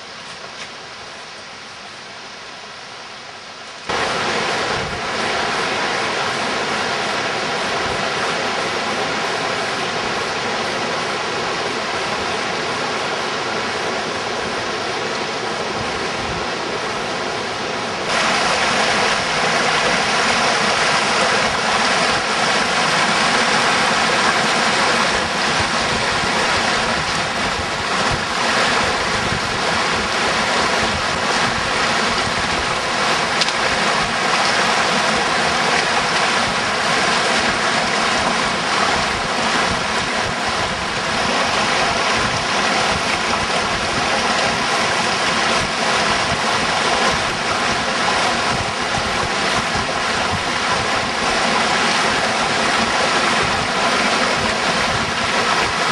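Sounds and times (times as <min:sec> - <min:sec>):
mountain stream rushing: 0:00.0 - 0:55.9.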